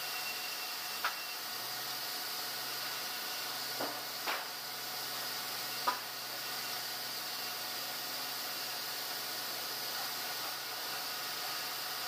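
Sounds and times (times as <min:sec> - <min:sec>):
sawmill machinery hum and hiss: 0:00.0 - 0:12.0.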